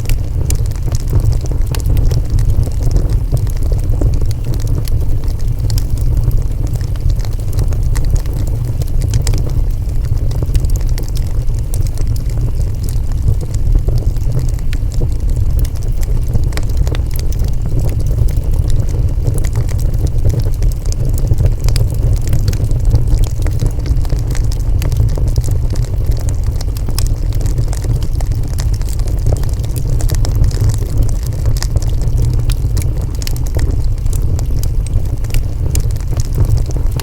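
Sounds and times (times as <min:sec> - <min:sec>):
crackles and pops of burning wood: 0:00.0 - 0:37.0
wood fire rumbling: 0:00.0 - 0:37.0.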